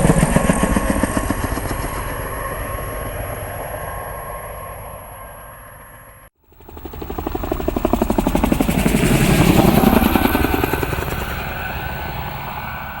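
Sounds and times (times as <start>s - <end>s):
helicopter rotor chopping: 0.0s - 4.3s, 6.4s - 13.0s.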